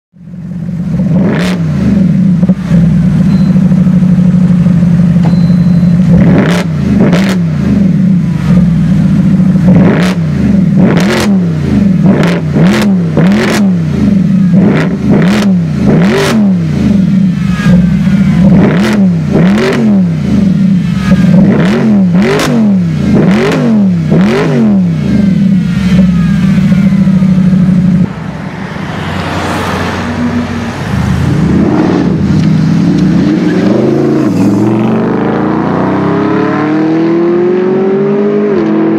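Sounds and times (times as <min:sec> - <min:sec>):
car engine revving: 0:00.3 - 0:38.9.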